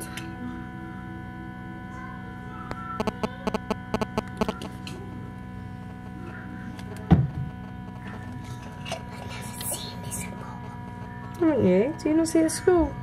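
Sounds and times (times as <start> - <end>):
incubator motor hum: 0.0 - 13.0.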